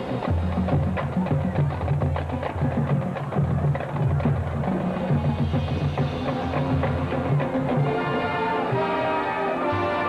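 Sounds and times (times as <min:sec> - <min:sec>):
drums and percussion hits: 0:00.0 - 0:09.0
marching band playing: 0:00.0 - 0:10.0.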